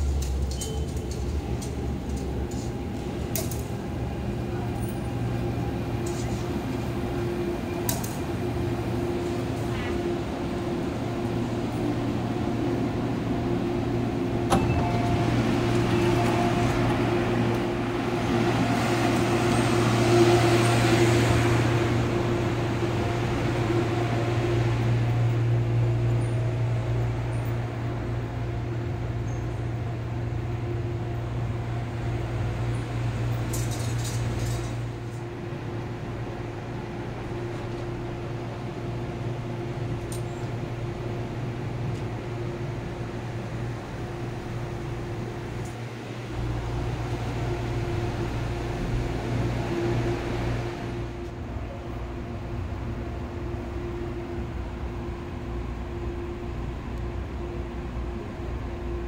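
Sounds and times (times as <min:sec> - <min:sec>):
train air-conditioning hum: 0:00.0 - 0:59.0.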